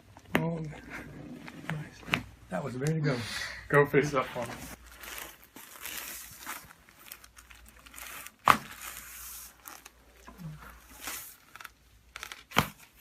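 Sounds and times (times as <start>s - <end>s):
rustling on a treatment table: 0.7s - 2.8s, 3.9s - 13.0s.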